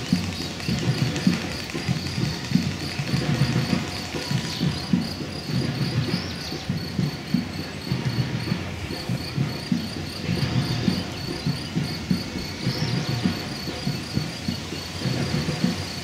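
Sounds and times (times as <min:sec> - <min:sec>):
running footsteps on asphalt: 0:00.0 - 0:16.0.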